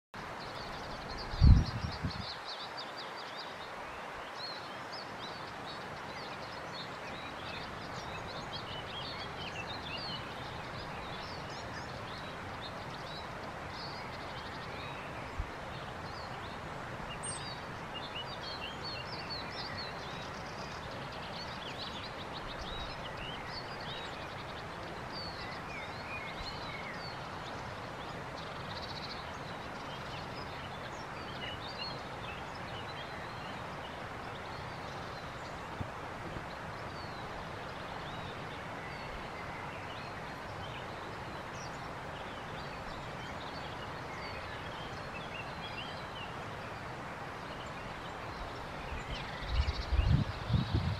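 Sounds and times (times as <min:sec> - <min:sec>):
small birds singing and chirping: 0:00.2 - 0:50.9
steady background hiss: 0:00.2 - 0:50.9.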